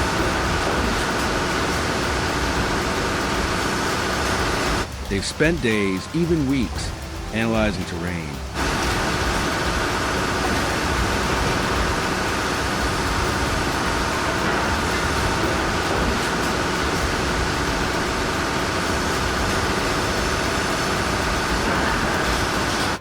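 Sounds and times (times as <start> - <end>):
heavy machinery engine drone: 0.0 - 23.0.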